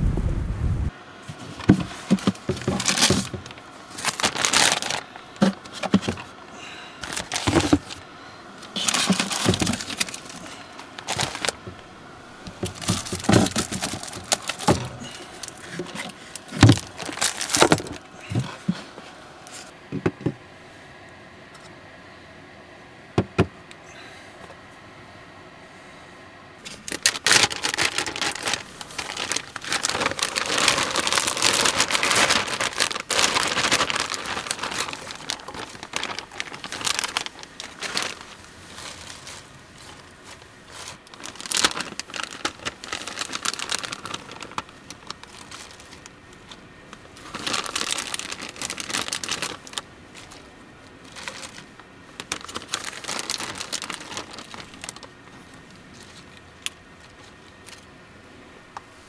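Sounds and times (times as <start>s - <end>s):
crinkling and crackling: 1.2s - 20.4s, 26.6s - 57.9s.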